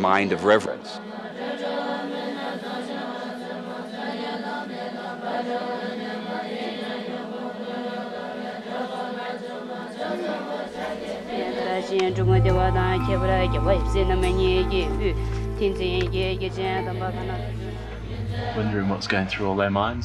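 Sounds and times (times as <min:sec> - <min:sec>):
women chanting prayers: 0:00.5 - 0:19.1.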